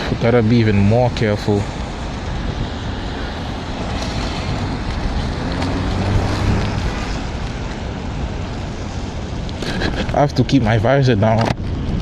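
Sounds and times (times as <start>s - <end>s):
tyres hissing on wet road: 0.0s - 11.2s
wind buffeting microphone: 0.0s - 12.0s.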